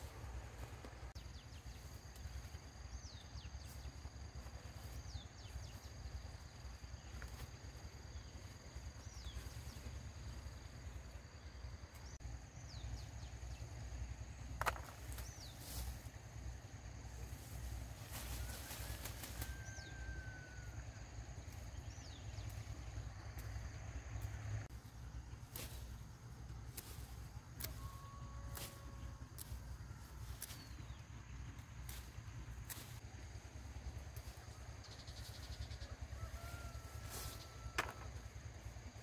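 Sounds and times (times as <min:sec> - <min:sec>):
high insect drone: 0:00.0 - 0:39.0.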